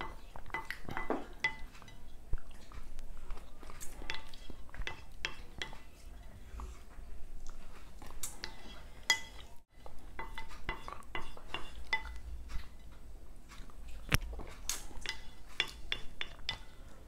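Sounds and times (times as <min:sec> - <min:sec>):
wooden spoon scraping a pan: 0:00.0 - 0:07.0, 0:07.6 - 0:17.0.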